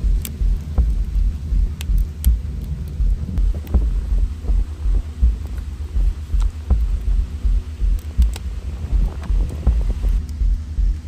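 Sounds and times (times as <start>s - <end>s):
fire crackling and popping: 0.0s - 11.0s
wood fire rumbling: 0.0s - 11.0s.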